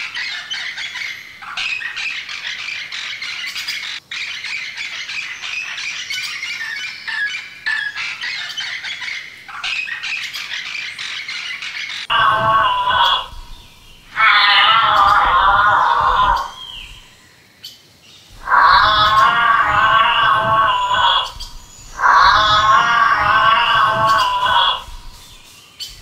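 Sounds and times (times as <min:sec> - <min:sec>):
birds squawking and chirping: 0:00.0 - 0:26.0.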